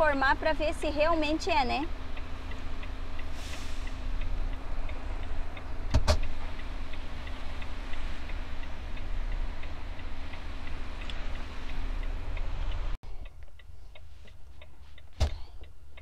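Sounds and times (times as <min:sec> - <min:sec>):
indicator relay ticking: 0:00.0 - 0:16.0.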